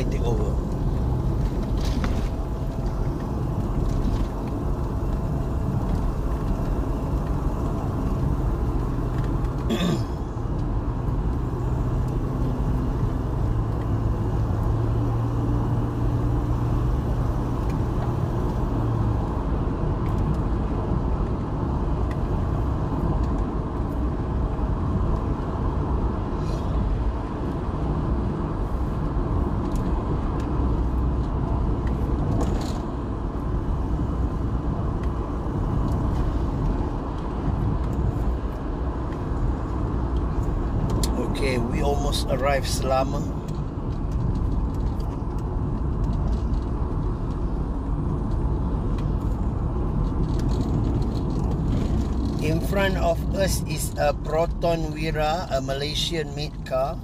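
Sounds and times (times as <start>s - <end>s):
engine and tyre rumble: 0.0s - 57.0s
engine hum: 0.0s - 57.0s.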